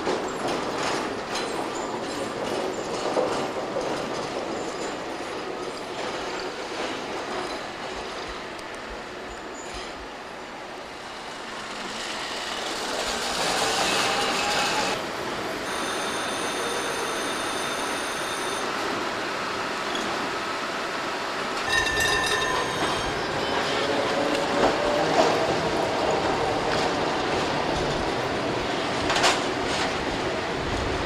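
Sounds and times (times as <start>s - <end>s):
tram wheels on rails: 0.0s - 31.0s.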